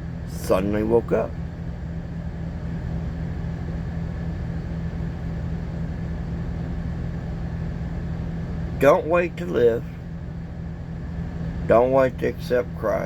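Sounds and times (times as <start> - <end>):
car engine hum: 0.0 - 13.0
road and air noise: 0.0 - 13.0.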